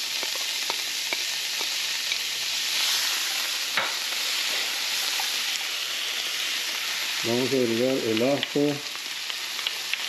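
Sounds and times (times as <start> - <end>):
vegetables sizzling in butter: 0.0 - 10.0.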